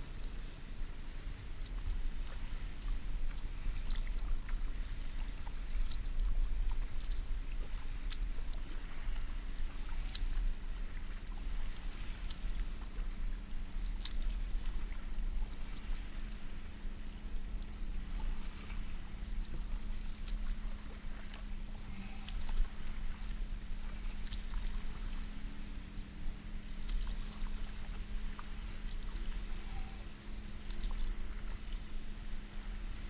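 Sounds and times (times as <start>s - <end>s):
water washing with low rumble: 0.0s - 33.0s.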